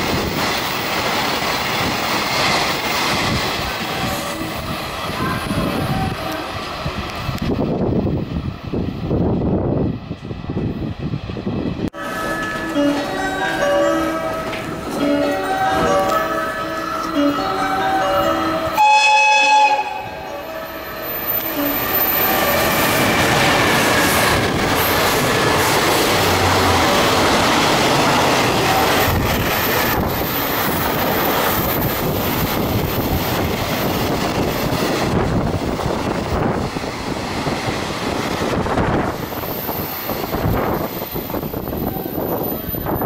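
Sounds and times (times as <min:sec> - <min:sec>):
train wheels rushing on rails: 0:00.0 - 0:43.0.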